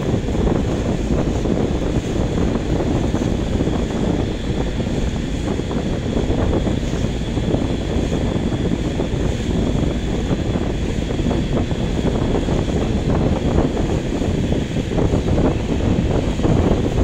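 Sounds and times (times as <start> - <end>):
water noise: 0.0 - 17.0
wind buffeting microphone: 0.0 - 17.0.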